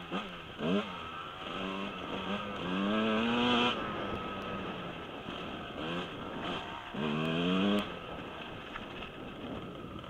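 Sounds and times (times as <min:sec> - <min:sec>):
dirt bike engine revving: 0:00.0 - 0:08.7.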